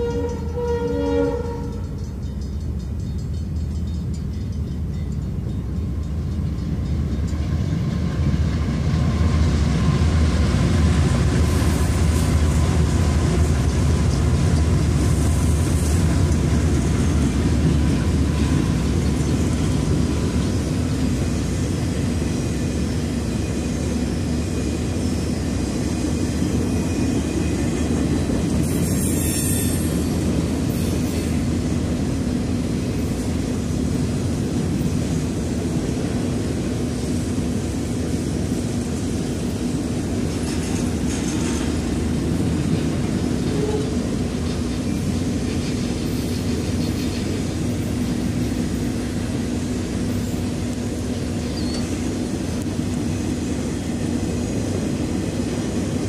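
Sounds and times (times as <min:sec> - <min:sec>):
diesel locomotives rumbling past: 0:00.0 - 0:56.0.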